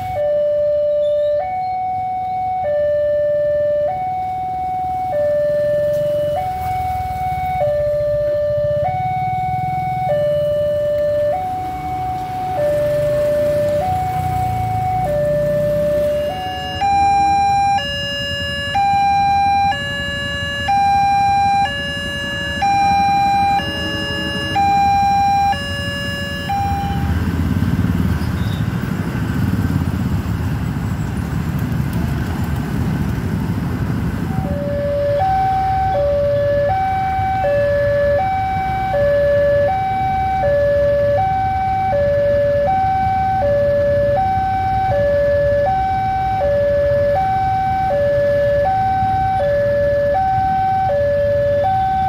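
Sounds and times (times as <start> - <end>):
level crossing two-tone alarm: 0.1 - 27.2, 34.3 - 52.0.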